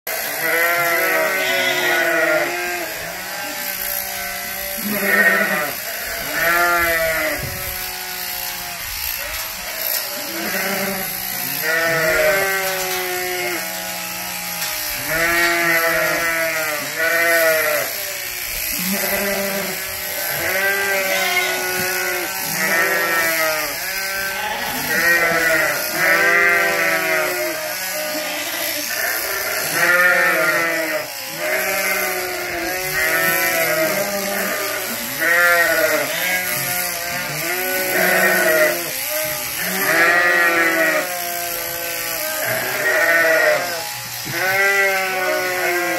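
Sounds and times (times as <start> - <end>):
electric clippers buzzing: 0.1 - 45.9
sheep bleating: 0.1 - 45.9.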